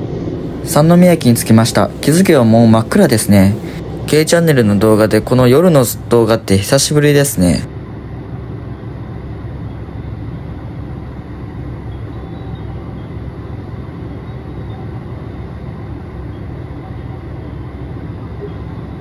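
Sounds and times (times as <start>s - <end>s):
diesel railcar running noise: 0.0s - 19.0s.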